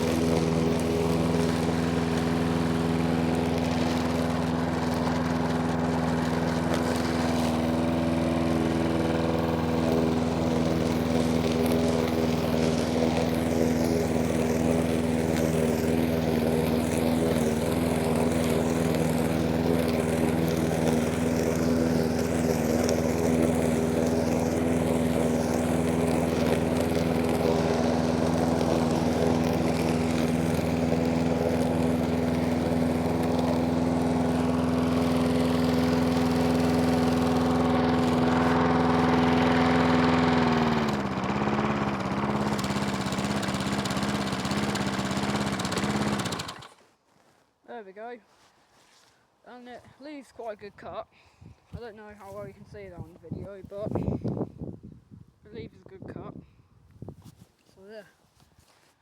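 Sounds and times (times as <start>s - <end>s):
lawnmower engine cutting grass: 0.0s - 50.8s, 51.7s - 54.4s.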